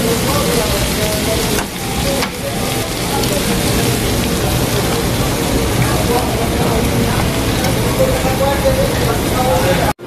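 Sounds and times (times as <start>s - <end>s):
meat sizzling on a grill: 0.0s - 9.9s.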